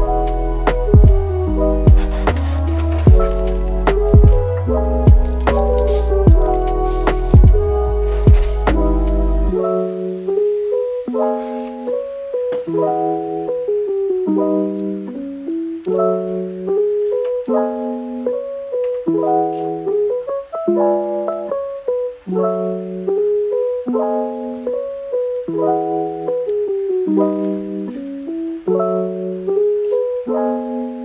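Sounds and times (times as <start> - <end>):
electric piano soft chords: 0.0 - 31.0.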